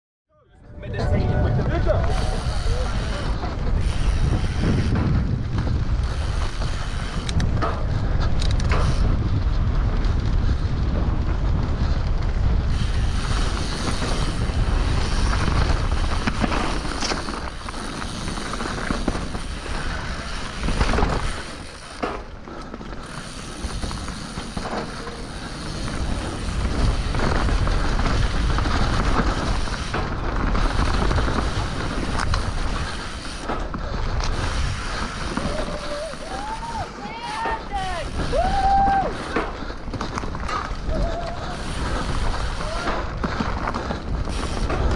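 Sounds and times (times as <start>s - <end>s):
wind rushing over microphone: 0.4s - 21.9s, 23.1s - 44.9s
tyres running on dirt: 1.3s - 44.9s
bike rattling over bumps: 1.4s - 44.9s.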